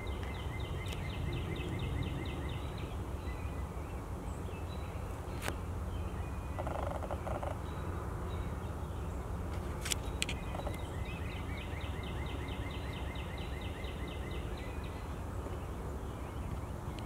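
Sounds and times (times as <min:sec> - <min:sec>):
songbird calling: 0:00.0 - 0:09.3, 0:09.9 - 0:17.0.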